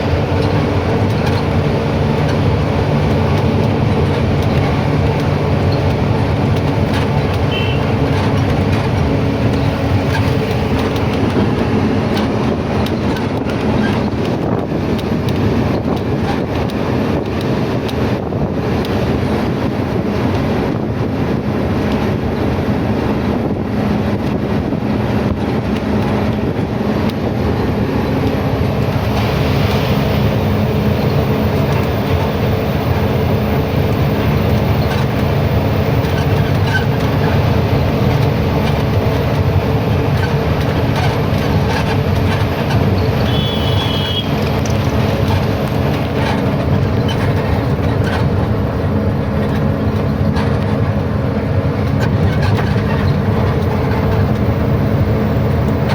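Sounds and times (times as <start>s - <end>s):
road noise: 0.0s - 55.9s
truck engine drone: 0.0s - 55.9s
wind noise: 0.0s - 55.9s.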